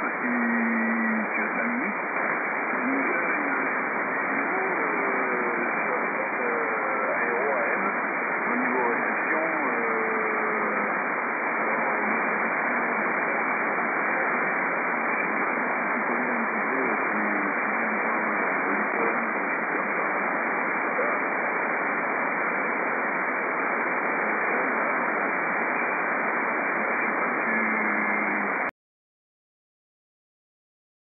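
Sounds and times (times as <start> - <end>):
faint wavering weak signals: 0.0 - 28.7
shortwave receiver hiss: 0.0 - 28.7.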